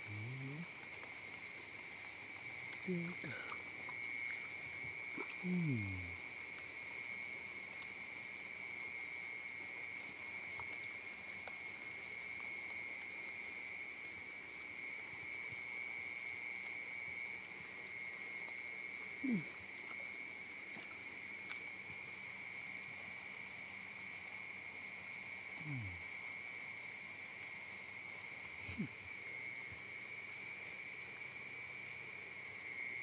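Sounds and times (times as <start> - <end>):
insects and frogs trilling: 0.0 - 33.0.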